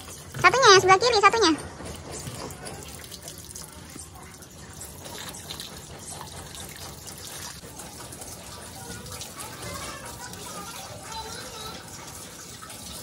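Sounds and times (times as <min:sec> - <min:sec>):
hose water running and splashing: 0:00.0 - 0:13.0.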